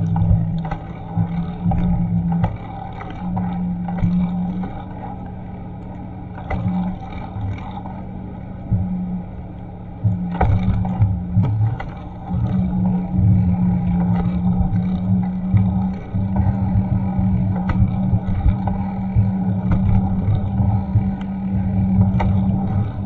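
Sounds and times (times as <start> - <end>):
bicycle road noise: 0.0 - 23.0
wind rumble: 0.0 - 23.0.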